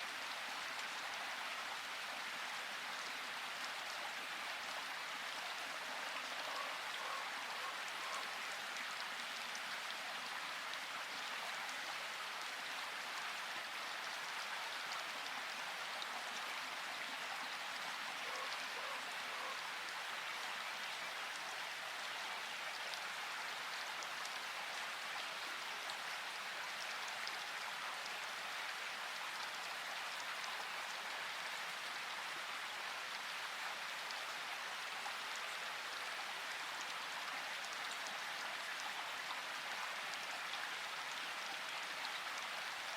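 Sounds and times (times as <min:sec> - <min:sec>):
steady rain pattering: 0:00.0 - 0:42.9.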